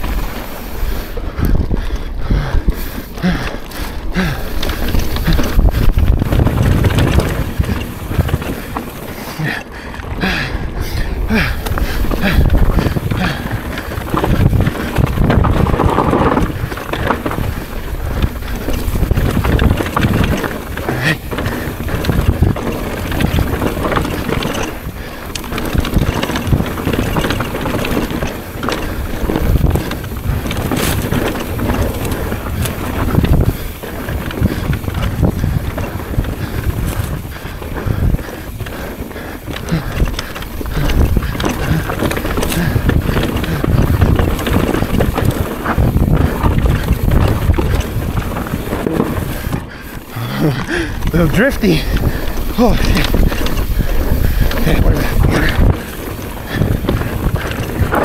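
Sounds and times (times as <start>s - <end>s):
bike rattling and knocking: 0.0s - 58.0s
tyres on dirt: 0.0s - 58.0s
wind buffeting microphone: 0.0s - 58.0s.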